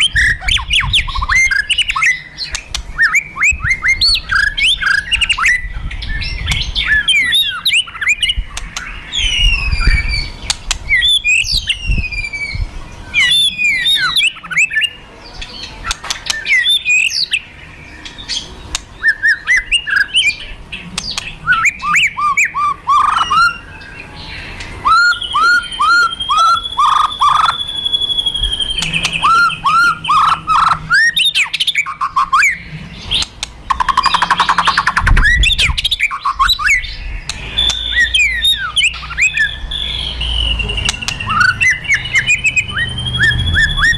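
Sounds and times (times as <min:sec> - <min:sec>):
songbird singing whistles: 0:00.0 - 0:43.9.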